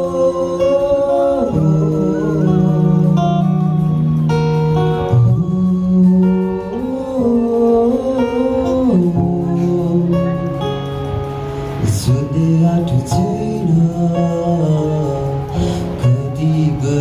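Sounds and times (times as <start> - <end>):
man singing a slow hymn: 0.0 - 4.1, 5.1 - 10.9, 11.8 - 17.0.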